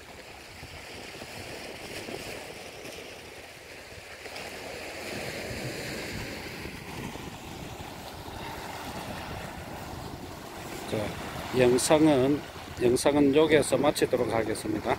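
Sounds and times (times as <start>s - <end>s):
waves breaking on rocky shore: 0.0s - 14.9s.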